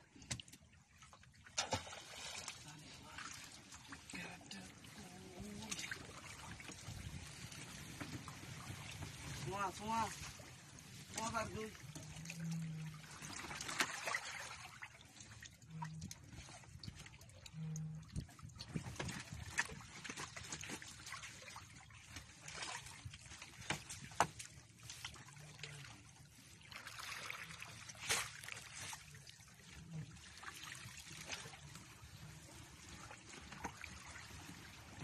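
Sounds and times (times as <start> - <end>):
small splashes and knocks: 0.0 - 35.0
water trickling and dripping: 0.0 - 35.0.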